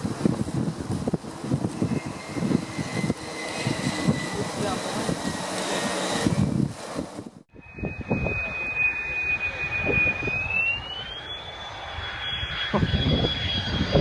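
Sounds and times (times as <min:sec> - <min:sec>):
aircraft engine whine: 0:00.0 - 0:14.0.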